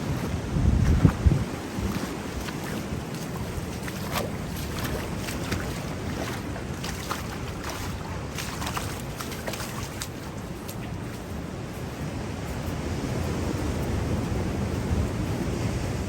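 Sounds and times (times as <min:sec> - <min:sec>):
surf washing: 0:00.0 - 0:16.0
wind buffeting microphone: 0:00.0 - 0:16.0.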